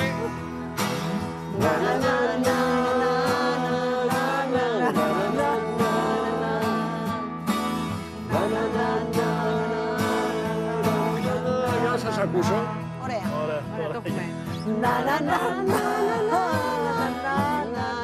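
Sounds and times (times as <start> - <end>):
live band with guitar: 0.0 - 18.0.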